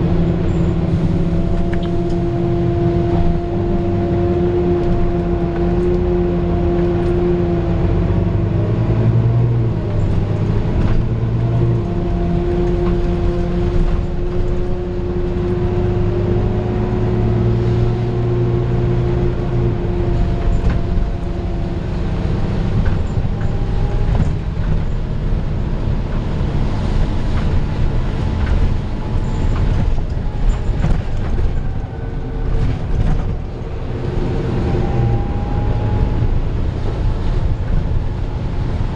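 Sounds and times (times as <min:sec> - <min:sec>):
bus engine running: 0:00.0 - 0:38.9
road noise: 0:00.0 - 0:38.9.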